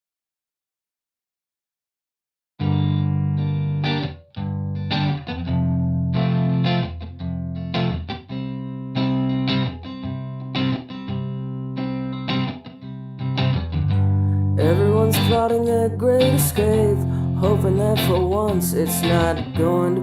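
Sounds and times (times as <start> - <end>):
guitar chords strummed: 2.6 - 20.0.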